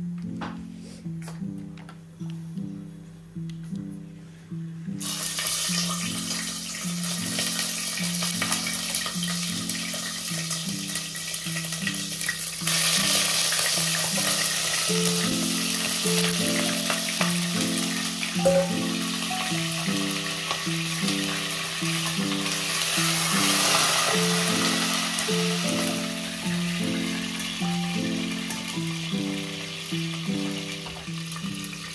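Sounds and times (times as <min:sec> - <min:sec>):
soft background music: 0:00.0 - 0:31.9
chicken sizzling in hot oil: 0:05.0 - 0:31.9.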